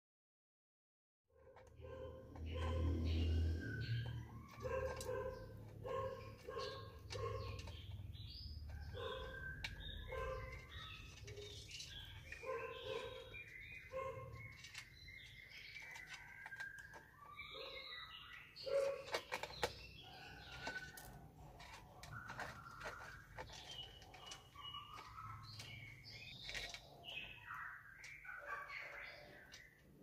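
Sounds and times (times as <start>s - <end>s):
birds chirping: 1.5s - 30.0s.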